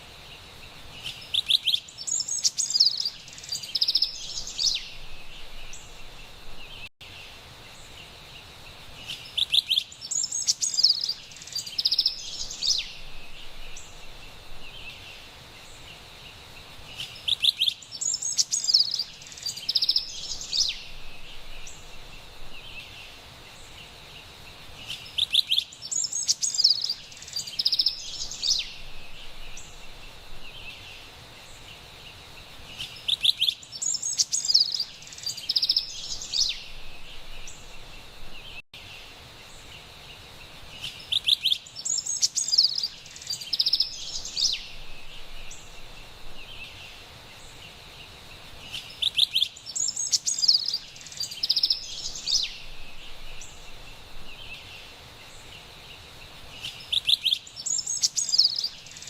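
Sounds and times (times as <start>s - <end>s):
faint forest ambience hiss: 0.0s - 59.0s
wren singing: 0.9s - 6.9s, 9.0s - 16.1s, 16.8s - 23.9s, 24.8s - 31.8s, 32.7s - 39.9s, 40.7s - 59.0s.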